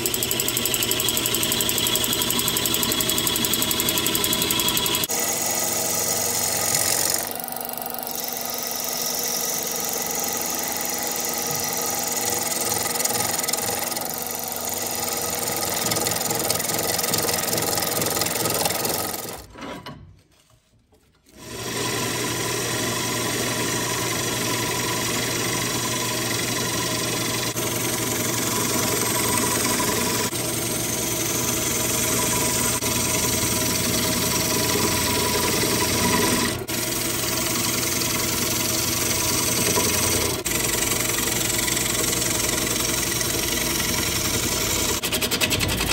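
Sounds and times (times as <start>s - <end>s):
lathe motor hum: 0.0s - 19.4s, 21.3s - 45.9s.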